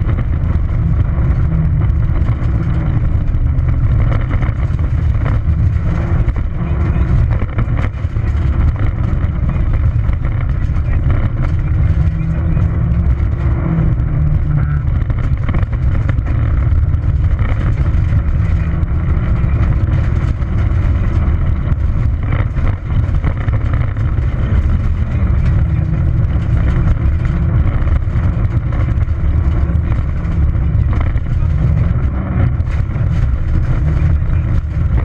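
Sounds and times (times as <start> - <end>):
rally car engine under load: 0.0 - 35.0
tyres on gravel road: 0.0 - 35.0.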